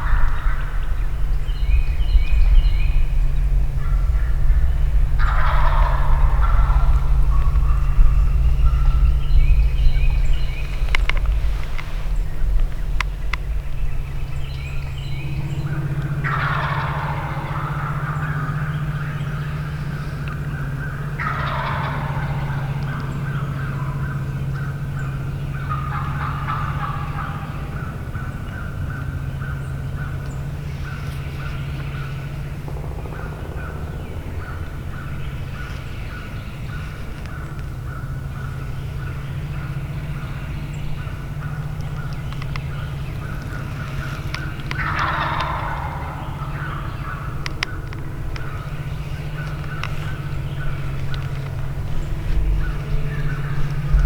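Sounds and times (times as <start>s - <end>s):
steady low hum: 0.0s - 54.0s
turkeys gobbling: 0.0s - 54.0s.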